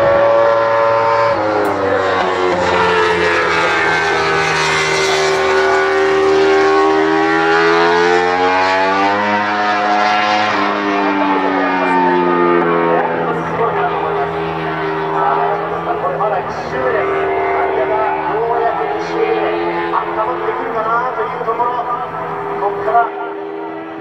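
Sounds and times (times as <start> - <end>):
motorcycle engine passing: 0.0 - 21.2.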